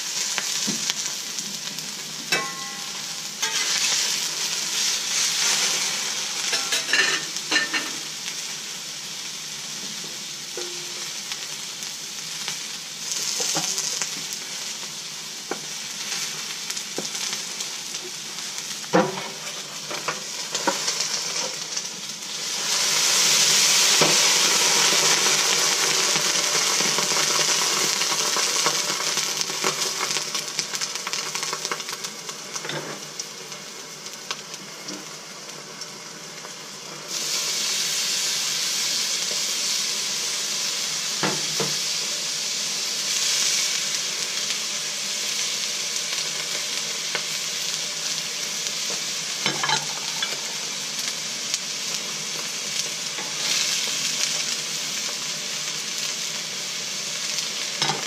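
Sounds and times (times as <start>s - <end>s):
chicken sizzling on a griddle: 0.0s - 58.0s.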